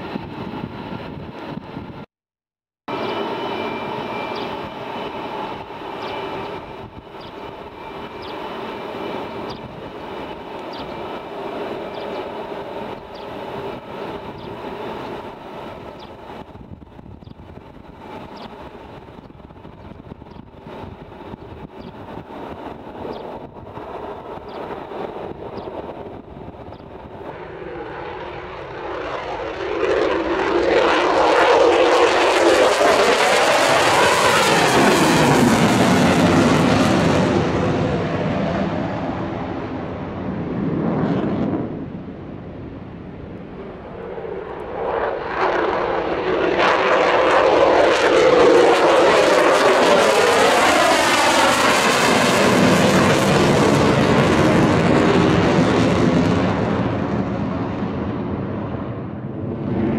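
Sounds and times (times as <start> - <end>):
jet engines whining and roaring: 0.0 - 2.1, 2.9 - 59.9.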